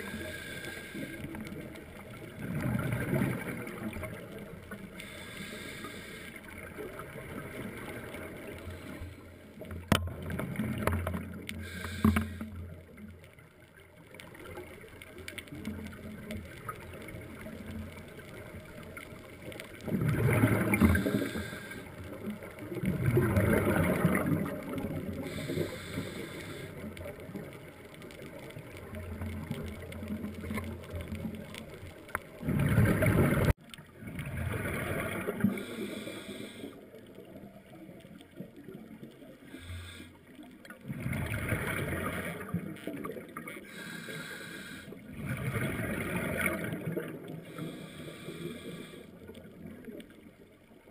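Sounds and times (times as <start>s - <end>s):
exhaled bubbles gurgling underwater: 0.0s - 50.9s
steady underwater wash: 0.0s - 50.9s.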